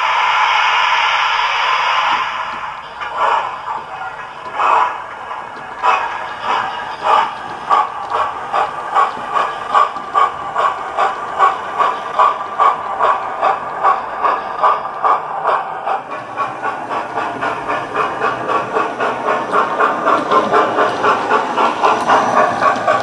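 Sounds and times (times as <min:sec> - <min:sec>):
model locomotive steam chuffs: 0:00.0 - 0:23.0.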